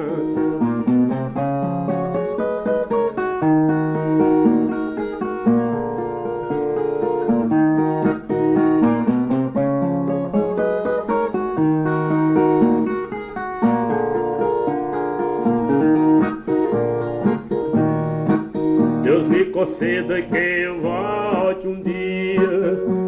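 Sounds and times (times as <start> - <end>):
plucked folk guitar melody: 0.0 - 23.0.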